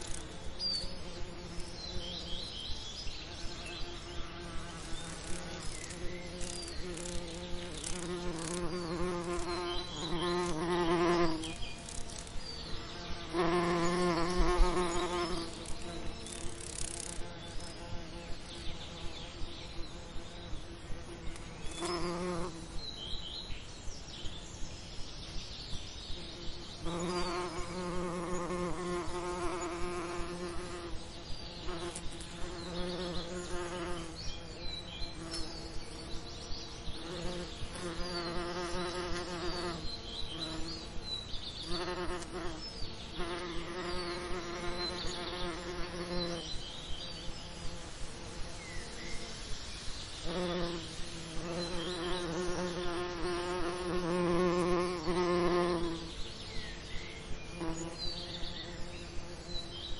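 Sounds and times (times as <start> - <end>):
bees buzzing: 0.0 - 2.6, 3.2 - 22.9, 26.2 - 56.5, 57.1 - 59.9.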